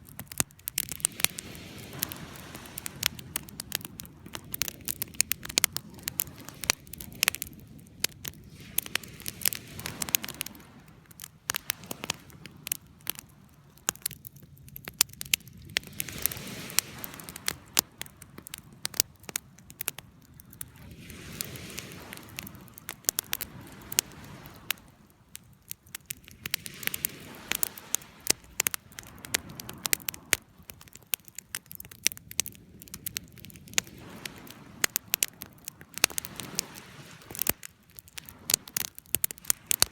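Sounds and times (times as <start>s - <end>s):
campfire crackling and popping: 0.0s - 39.9s
soft fire hiss: 0.0s - 39.9s.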